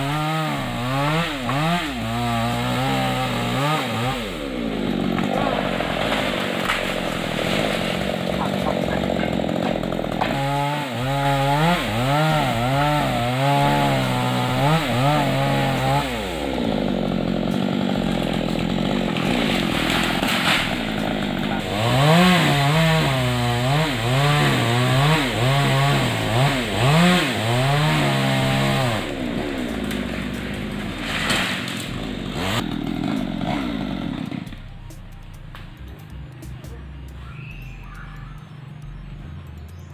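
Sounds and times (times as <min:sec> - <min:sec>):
chainsaw engine revving: 0:00.0 - 0:35.6.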